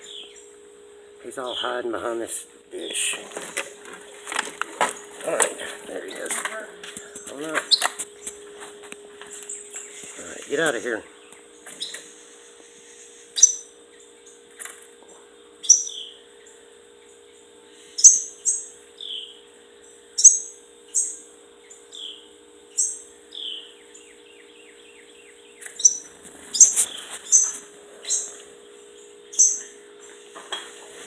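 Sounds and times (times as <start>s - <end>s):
fledgling birds chirping: 0.0s - 31.0s
steady low hum: 0.0s - 31.0s.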